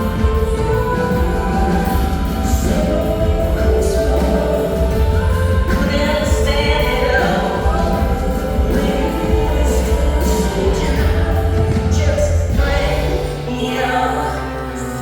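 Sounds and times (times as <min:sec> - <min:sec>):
sustained keyboard chords: 0:00.0 - 0:15.0
woman singing: 0:00.0 - 0:15.0.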